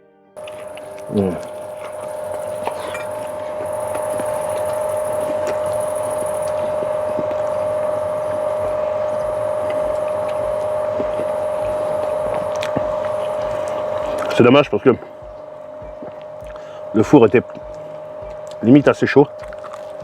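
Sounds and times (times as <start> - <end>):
high buzzing: 0.4 - 20.0
small motor humming: 0.4 - 20.0.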